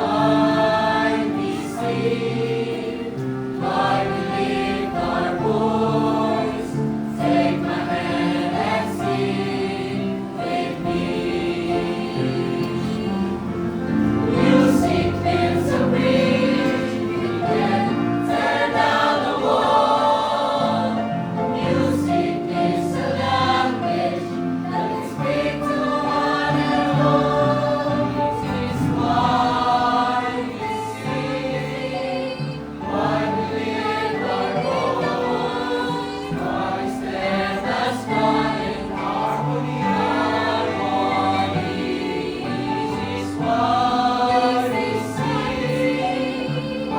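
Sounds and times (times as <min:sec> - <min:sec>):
choir singing a slow hymn: 0:00.0 - 0:46.9.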